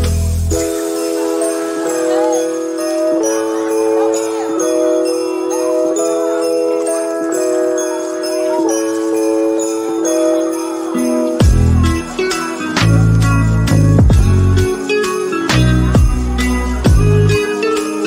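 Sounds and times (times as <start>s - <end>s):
music with sleigh bells: 0.0s - 18.0s.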